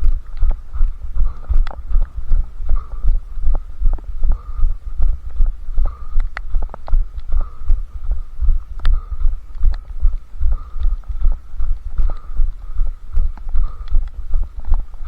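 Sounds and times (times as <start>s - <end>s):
sharp ticks: 0.0s - 15.0s.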